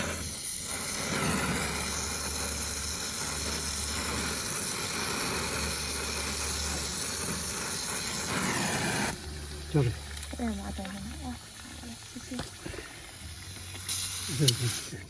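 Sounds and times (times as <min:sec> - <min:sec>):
low hum: 0:00.0 - 0:14.2
brazing torch flame hissing: 0:00.0 - 0:15.0.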